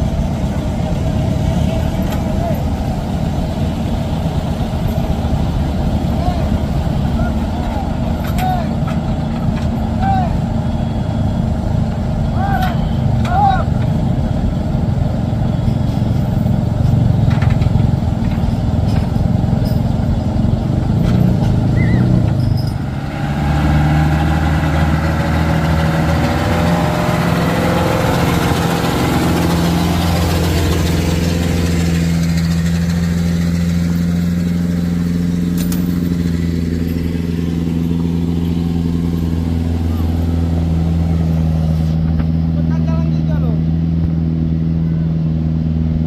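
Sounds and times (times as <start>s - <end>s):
diesel truck engine running: 0.0s - 46.0s.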